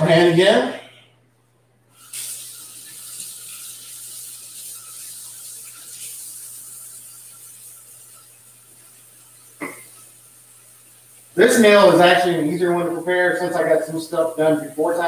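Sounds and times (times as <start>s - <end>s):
tap water running into sink: 2.0s - 15.0s.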